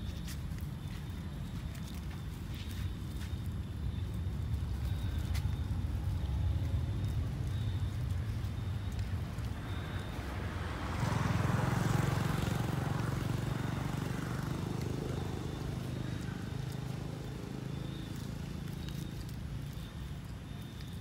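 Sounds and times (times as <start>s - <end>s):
vehicle engine hum passing: 0.0s - 21.0s.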